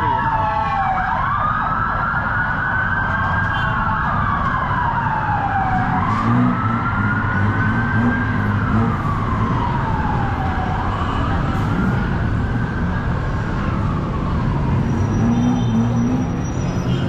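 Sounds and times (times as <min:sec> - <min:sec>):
emergency vehicle siren wailing: 0:00.0 - 0:17.0
street traffic rumble: 0:00.0 - 0:17.0.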